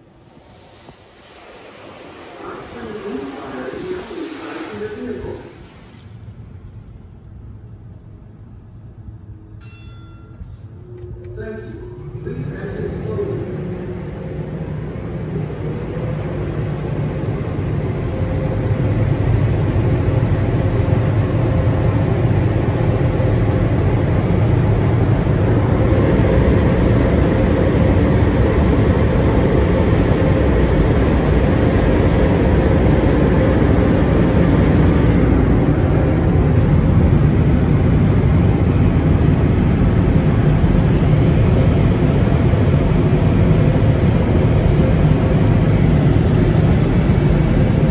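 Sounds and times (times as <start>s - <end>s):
car wash blower dryers rushing: 0.0s - 7.9s, 11.2s - 47.9s.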